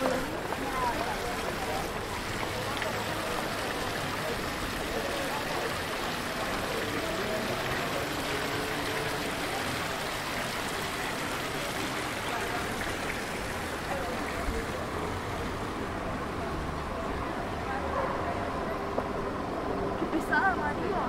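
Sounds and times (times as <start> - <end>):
murmur of distant voices: 0.0 - 21.0.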